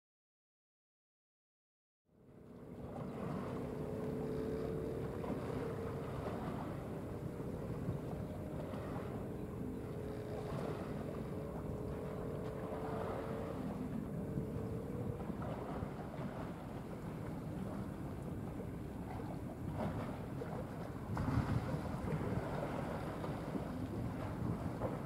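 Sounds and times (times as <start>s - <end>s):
boat engine hum: 2.1s - 25.0s
wind rumbling on microphone: 2.4s - 25.0s.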